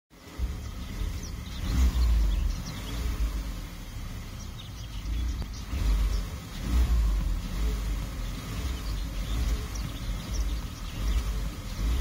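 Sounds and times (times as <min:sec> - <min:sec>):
car engine revving and idling: 0:00.1 - 0:12.0
birds chirping: 0:00.2 - 0:12.0.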